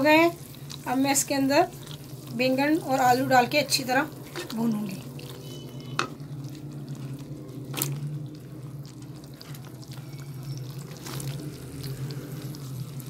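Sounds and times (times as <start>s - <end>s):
sauce sizzling in oil: 0.0s - 13.0s.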